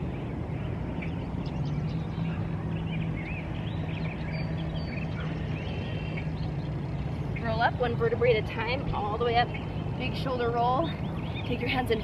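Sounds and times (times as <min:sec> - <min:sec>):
birds chirping and calling: 0:00.0 - 0:12.0
steady low hum: 0:00.0 - 0:12.0.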